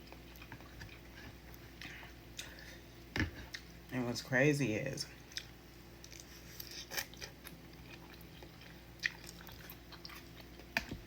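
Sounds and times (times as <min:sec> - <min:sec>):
wet chewing and smacking: 0:00.0 - 0:03.9, 0:05.2 - 0:11.0
faint steady hum: 0:00.0 - 0:11.0.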